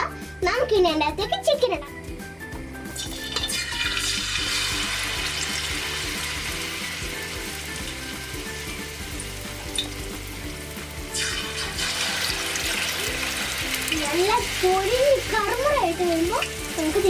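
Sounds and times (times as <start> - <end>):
chicken deep-frying in oil: 2.8 - 17.0.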